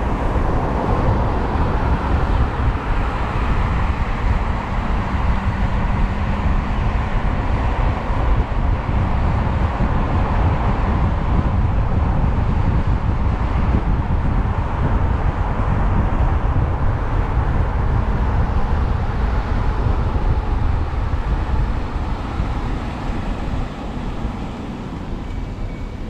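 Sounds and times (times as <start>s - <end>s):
road noise: 0.0s - 26.0s
wind buffeting microphone: 0.0s - 26.0s.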